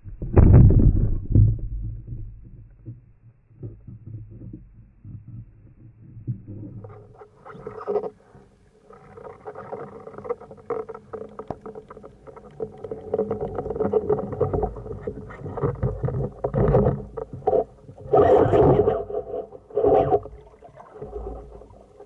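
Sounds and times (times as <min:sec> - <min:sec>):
underwater steady hum: 0:00.0 - 0:22.0
small clicks and crackles: 0:02.1 - 0:22.0.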